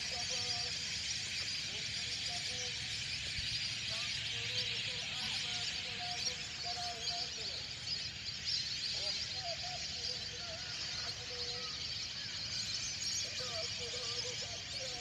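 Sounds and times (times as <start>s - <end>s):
bird calls: 0.0s - 15.0s
faint distant voices: 0.0s - 15.0s
steady outdoor hiss: 0.0s - 15.0s.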